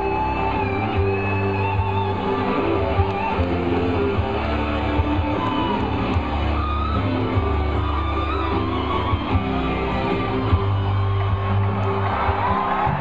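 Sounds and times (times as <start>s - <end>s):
heavy bass line: 0.0s - 13.0s
strummed electric guitar: 0.0s - 13.0s.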